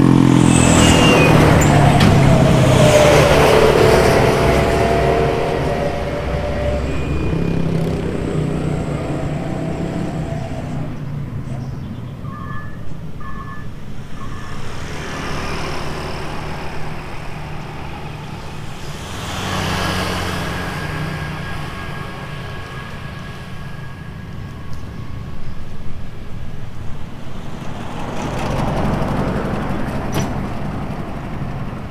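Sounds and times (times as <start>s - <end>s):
heavy trucks passing: 0.0s - 31.9s.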